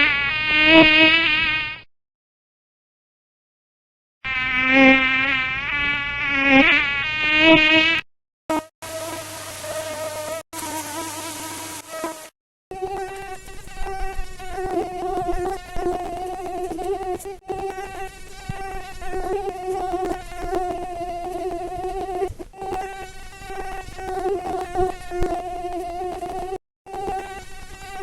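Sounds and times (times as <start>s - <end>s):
mosquito wing whine: 0.0s - 1.9s, 4.3s - 28.0s.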